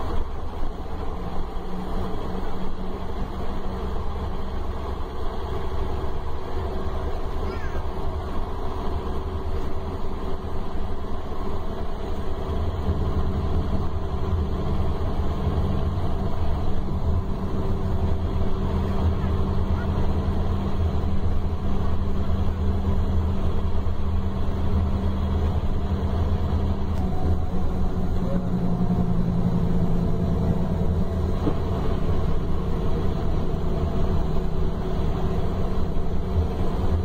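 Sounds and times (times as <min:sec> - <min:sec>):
coach diesel engine drone: 0:00.0 - 0:37.0.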